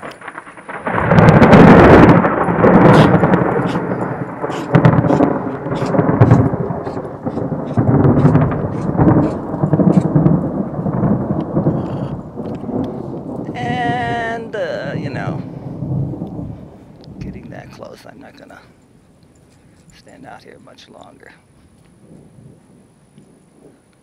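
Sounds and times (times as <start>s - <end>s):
loud rolling thunder: 0.0s - 19.1s, 22.0s - 23.9s.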